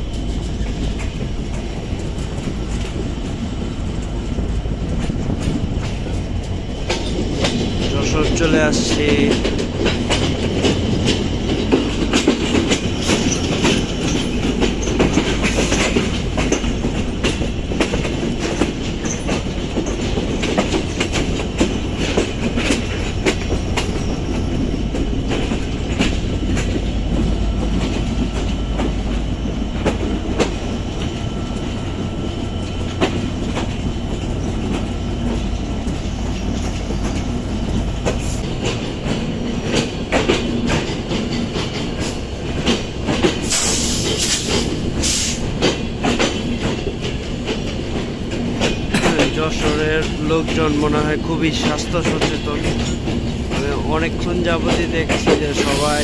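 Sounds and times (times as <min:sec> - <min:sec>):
train rumbling on rails: 0:00.0 - 0:56.0
wheels clacking over rail joints: 0:00.0 - 0:56.0.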